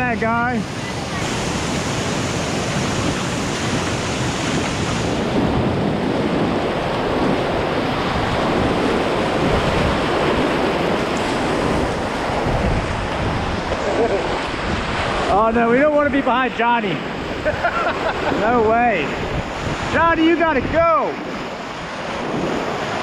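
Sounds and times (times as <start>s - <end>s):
whitewater rapids rushing: 0.0s - 23.0s
wind buffeting microphone: 0.0s - 23.0s.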